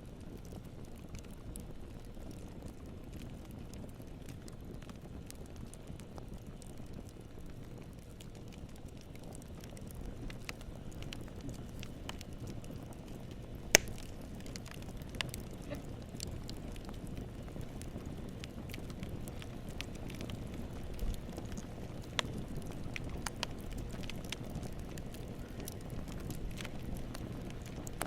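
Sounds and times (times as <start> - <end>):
low rumble of campfire flames: 0.0 - 28.0
wood crackling and popping: 0.0 - 28.0.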